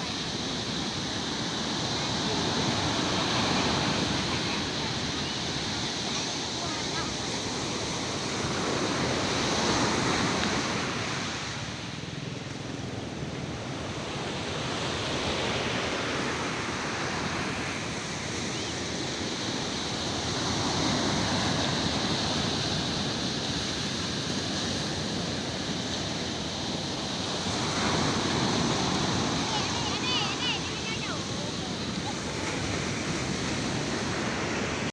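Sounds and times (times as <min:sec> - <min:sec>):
waves breaking: 0:00.0 - 0:34.9.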